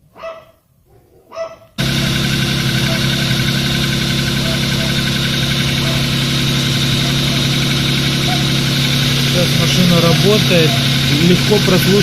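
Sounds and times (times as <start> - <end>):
car engine idling with knock: 1.8 - 12.0.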